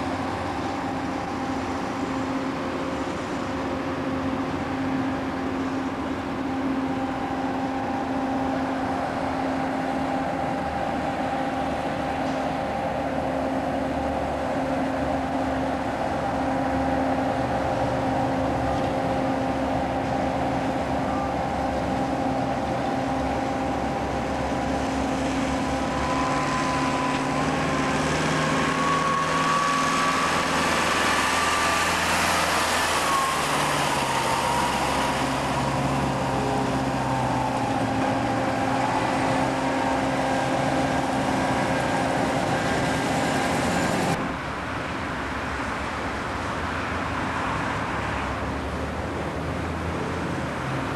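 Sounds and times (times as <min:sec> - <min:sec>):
concrete mixer truck engine: 0:00.0 - 0:50.9
construction machinery drone: 0:00.0 - 0:50.9.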